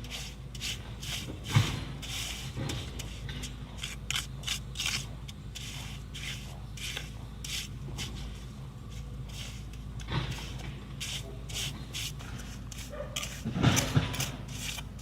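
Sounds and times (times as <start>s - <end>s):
scraping strokes: 0.0s - 15.0s
steady low hum: 0.0s - 15.0s.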